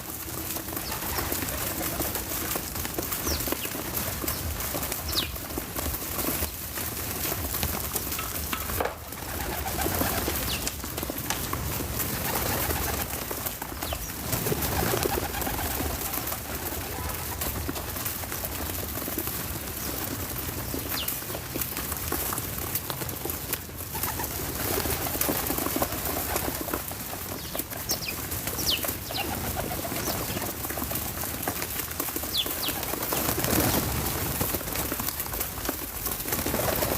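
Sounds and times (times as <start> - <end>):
doves cooing: 0.0 - 21.5, 23.9 - 36.9.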